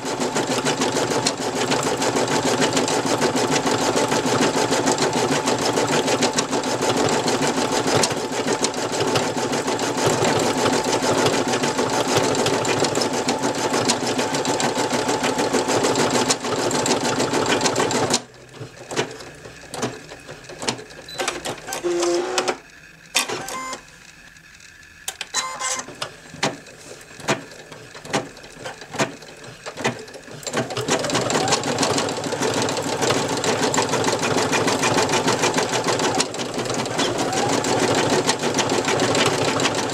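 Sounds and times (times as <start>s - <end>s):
embroidery machine stitching: 0.0s - 22.6s, 25.1s - 39.9s.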